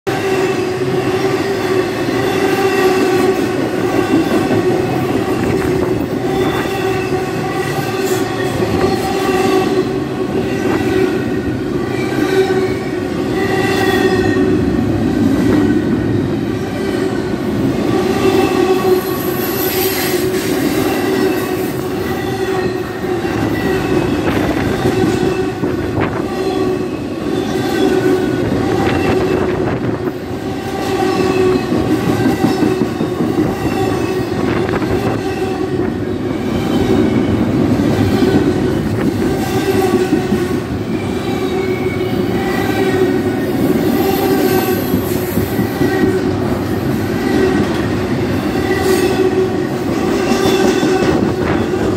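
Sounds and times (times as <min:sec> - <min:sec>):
freight train wheels rumbling: 0:00.1 - 0:51.9.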